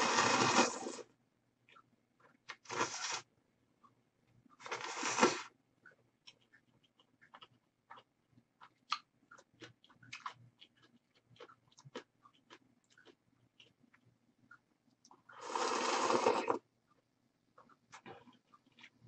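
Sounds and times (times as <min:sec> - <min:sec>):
chewing noodles with mouth clicks: 0:00.2 - 0:19.0.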